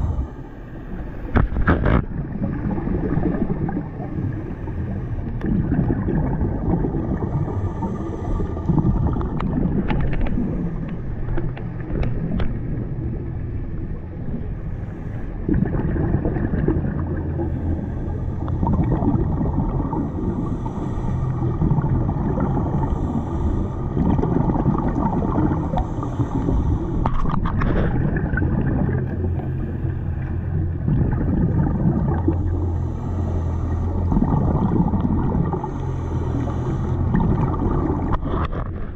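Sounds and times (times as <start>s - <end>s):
exhaled bubbles gurgling: 0.0s - 38.9s
muffled underwater rumble: 0.0s - 38.9s.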